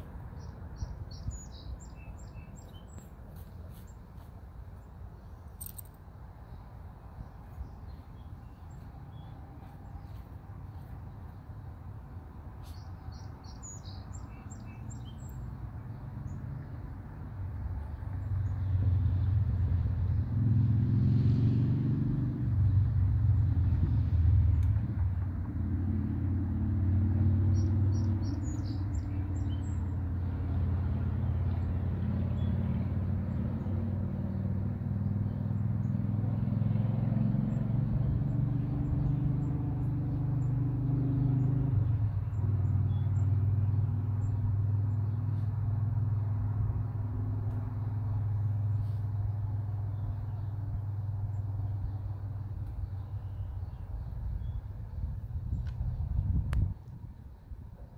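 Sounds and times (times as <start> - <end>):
low engine hum: 0.0 - 57.9.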